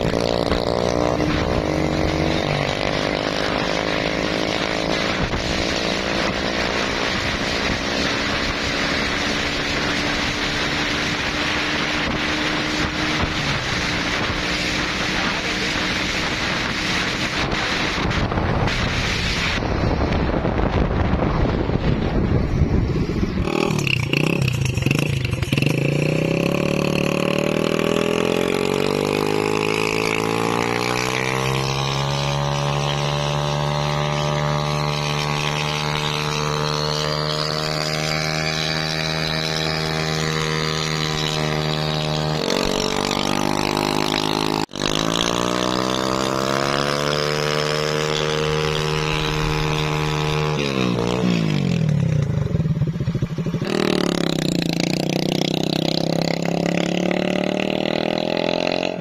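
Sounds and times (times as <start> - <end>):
motorcycle engine revving hard: 0.0 - 59.0.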